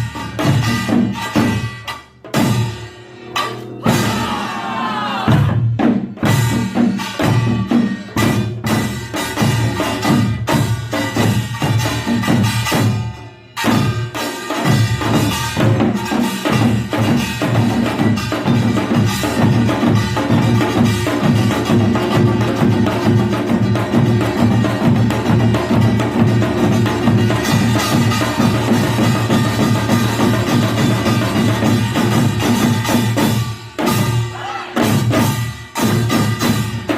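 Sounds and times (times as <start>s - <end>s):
percussion band on gongs and drums: 0.0s - 36.9s.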